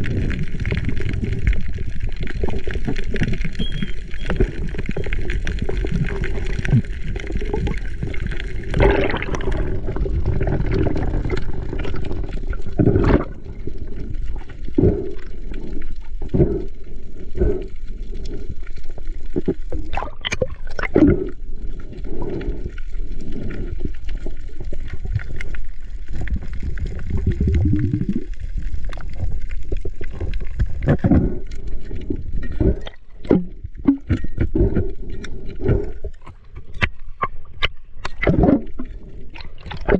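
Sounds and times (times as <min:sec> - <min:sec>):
water rushing underwater: 0:00.0 - 0:39.9.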